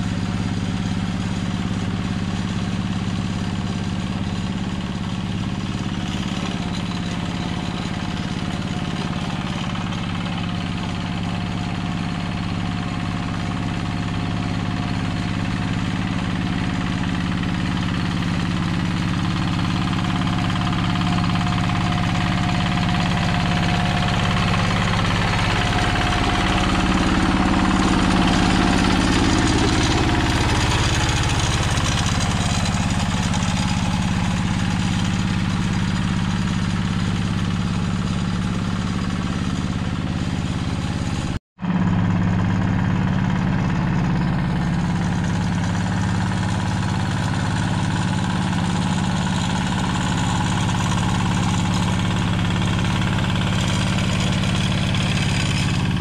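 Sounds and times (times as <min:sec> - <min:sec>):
hand tractor diesel engine: 0:00.0 - 0:56.0.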